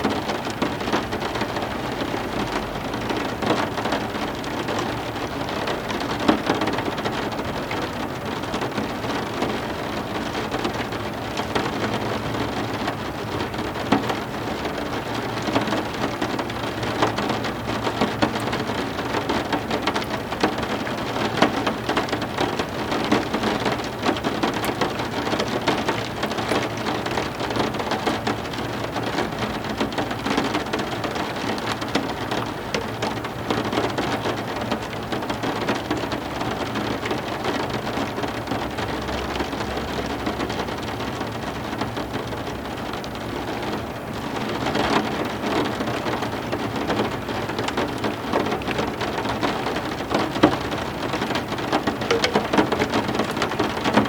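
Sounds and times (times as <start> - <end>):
raindrops ticking: 0.1 - 38.4, 47.5 - 54.0
heavy rain falling: 0.1 - 54.0.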